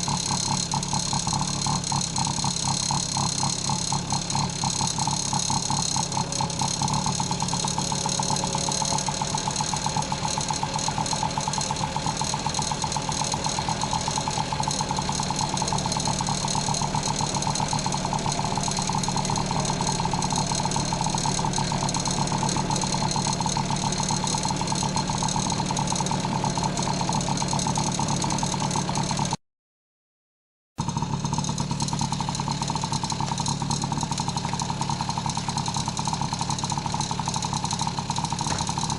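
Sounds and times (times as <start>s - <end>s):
small two-stroke engine running: 0.0s - 29.4s, 30.8s - 38.9s.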